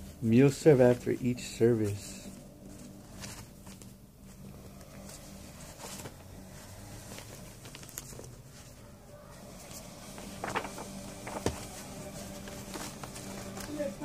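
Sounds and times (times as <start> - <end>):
faint low hum: 0.0 - 14.0
paper rustling: 0.7 - 14.0.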